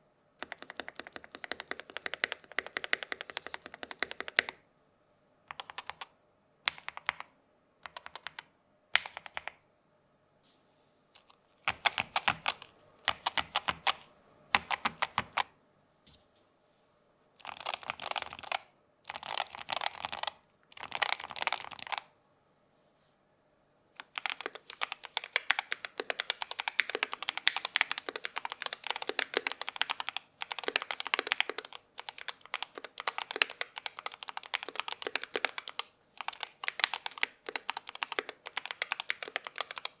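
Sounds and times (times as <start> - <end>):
keyboard typing: 0.4 - 4.6, 5.5 - 9.6, 11.2 - 15.5, 17.4 - 22.1, 24.0 - 40.0.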